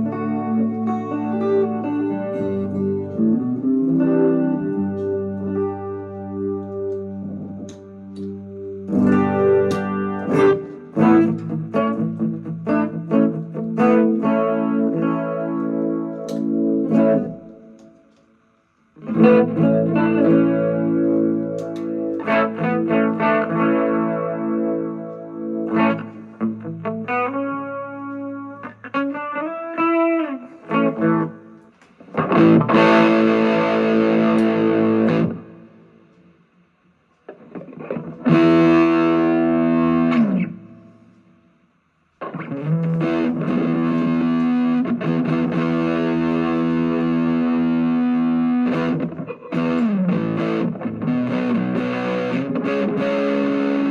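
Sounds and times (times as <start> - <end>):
distorted electric guitar chords: 0.0 - 36.6, 37.2 - 41.4, 42.2 - 53.9.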